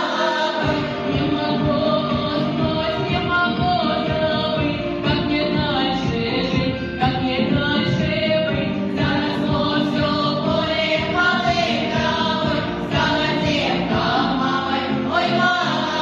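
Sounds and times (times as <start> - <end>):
group singing a song: 0.0 - 16.0
musical accompaniment: 0.0 - 16.0.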